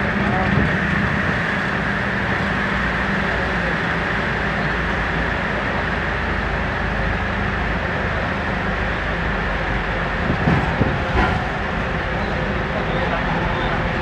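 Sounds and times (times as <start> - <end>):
bus engine and tyre noise: 0.0 - 14.0.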